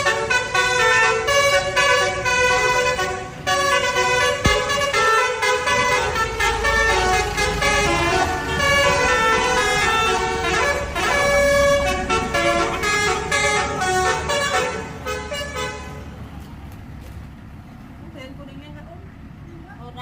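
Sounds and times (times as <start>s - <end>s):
multi-tone horn playing a tune: 0.0s - 16.0s
low vehicle rumble: 0.0s - 20.0s.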